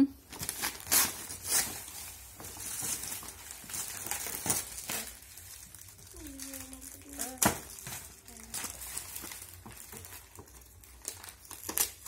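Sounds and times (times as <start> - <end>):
wrapping paper rustling: 0.2 - 12.0.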